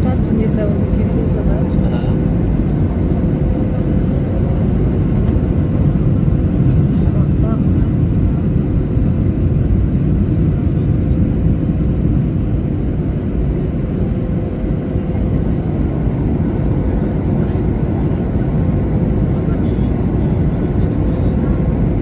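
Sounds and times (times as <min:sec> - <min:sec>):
jet engine roar in cabin: 0:00.0 - 0:22.0.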